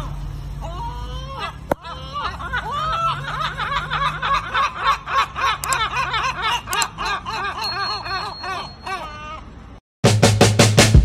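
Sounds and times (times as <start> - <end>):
gull laughing call: 0.0 - 9.6.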